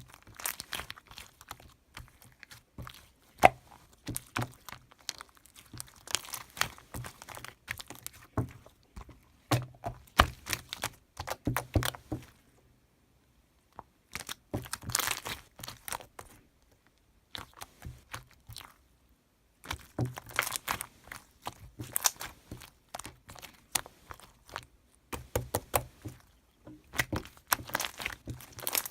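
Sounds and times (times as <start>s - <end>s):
crinkling and crunching: 0.0s - 12.4s, 13.7s - 18.9s, 19.6s - 28.9s.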